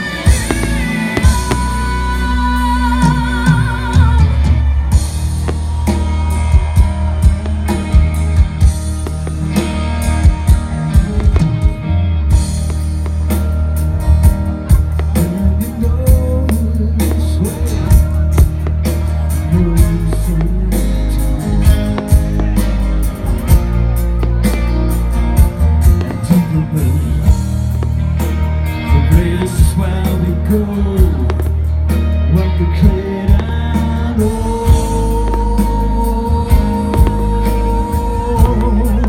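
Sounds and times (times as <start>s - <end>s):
song with singing and heavy bass: 0.0s - 39.0s.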